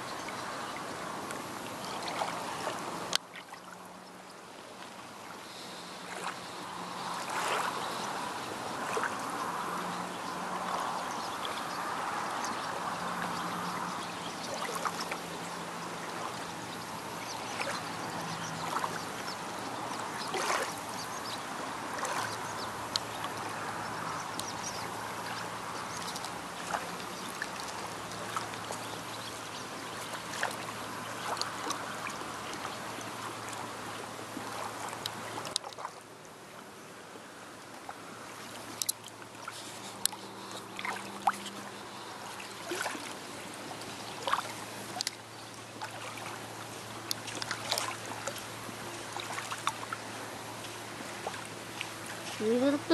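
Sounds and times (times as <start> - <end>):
small waves lapping on sand: 0.0 - 52.9.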